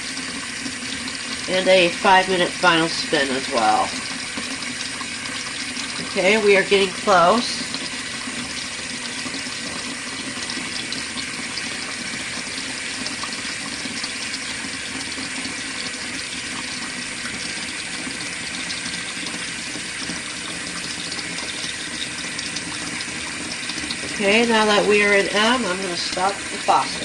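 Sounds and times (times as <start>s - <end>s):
tap water running into tub: 0.0s - 27.0s.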